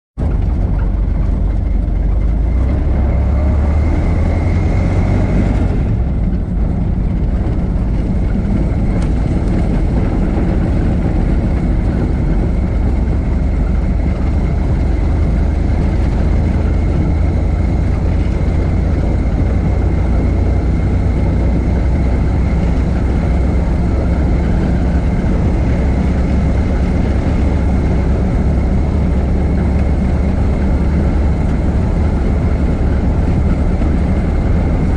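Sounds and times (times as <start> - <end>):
car engine droning: 0.2 - 34.9.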